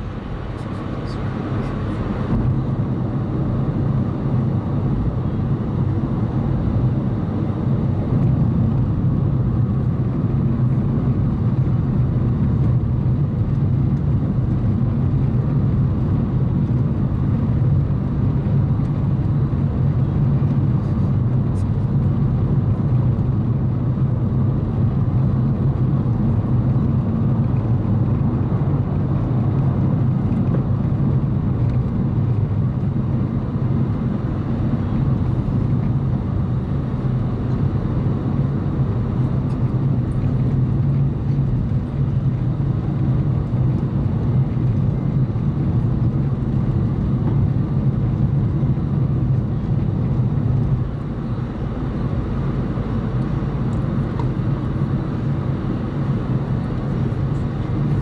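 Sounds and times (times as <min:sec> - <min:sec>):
car engine and road hum: 0:00.0 - 0:58.0.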